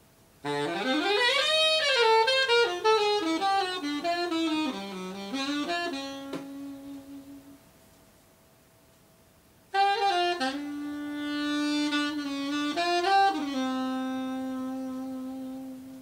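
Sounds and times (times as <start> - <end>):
saxophone solo: 0.4 - 7.7, 9.7 - 16.0.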